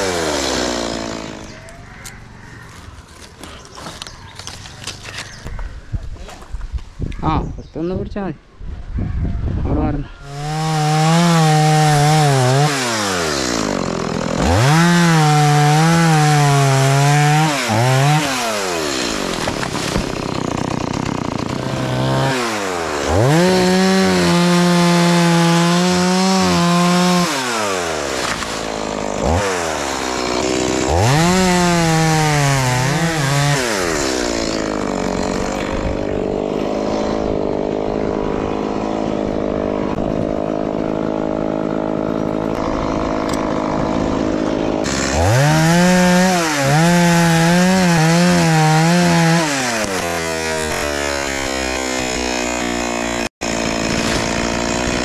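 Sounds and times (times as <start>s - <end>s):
chainsaw cutting wood: 0.0s - 1.7s, 10.2s - 55.0s.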